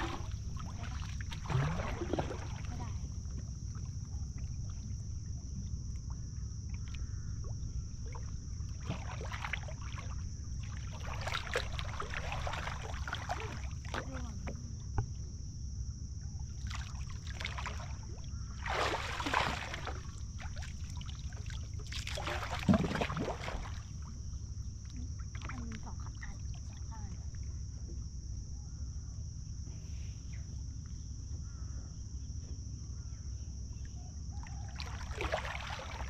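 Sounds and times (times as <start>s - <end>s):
water splashing and sloshing: 0.0s - 28.2s, 33.8s - 36.0s.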